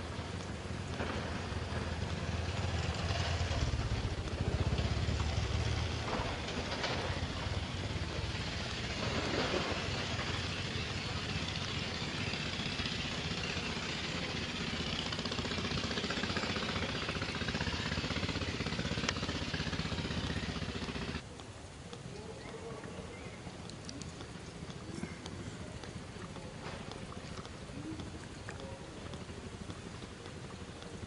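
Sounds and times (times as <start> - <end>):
small engine running: 0.0 - 21.2, 24.2 - 31.0.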